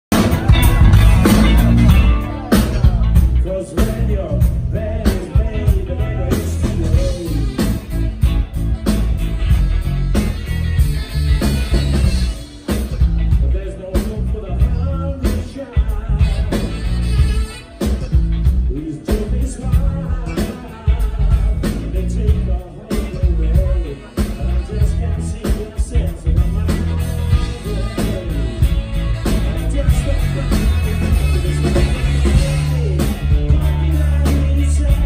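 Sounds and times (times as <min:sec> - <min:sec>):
rock band playing live: 0:00.0 - 0:35.0
person singing: 0:00.1 - 0:09.8, 0:11.5 - 0:35.0.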